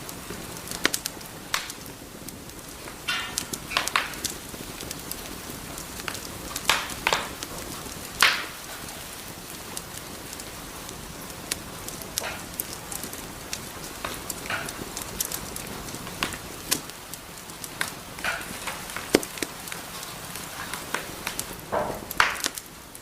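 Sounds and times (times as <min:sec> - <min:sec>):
fire popping and snapping: 0:00.0 - 0:23.0
wood fire crackling: 0:00.0 - 0:23.0.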